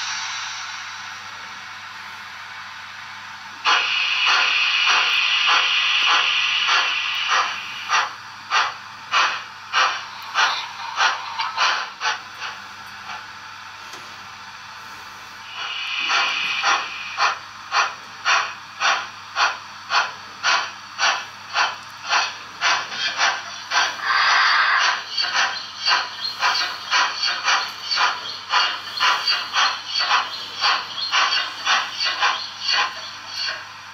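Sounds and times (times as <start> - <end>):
model locomotive steam chuffs: 0.0 - 33.9
steam hiss: 0.0 - 33.9.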